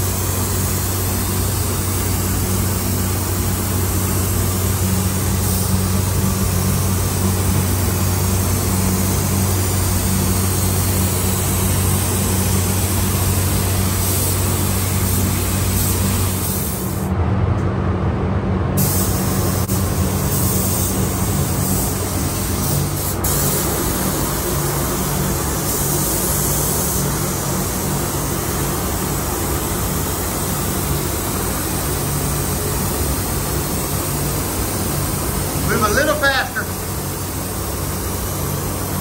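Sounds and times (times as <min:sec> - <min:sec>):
spray gun hissing: 0:00.0 - 0:17.1, 0:18.8 - 0:39.0
low air handling hum: 0:00.0 - 0:39.0.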